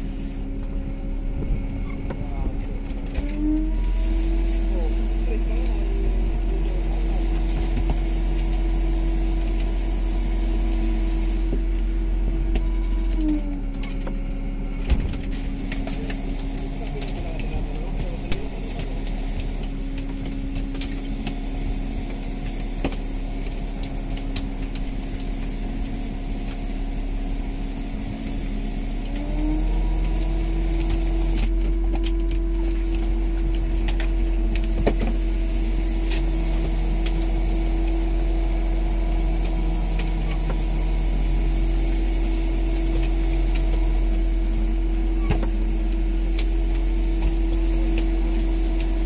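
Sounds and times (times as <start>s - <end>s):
boat engine droning: 0.0s - 49.0s.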